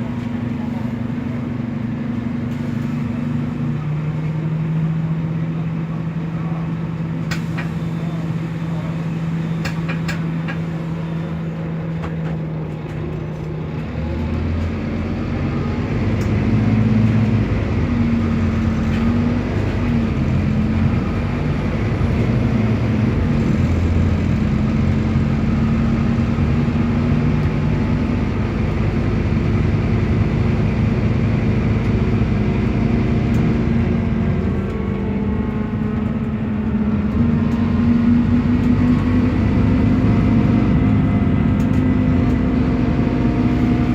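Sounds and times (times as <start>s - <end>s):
diesel bus engine: 0.0s - 43.9s.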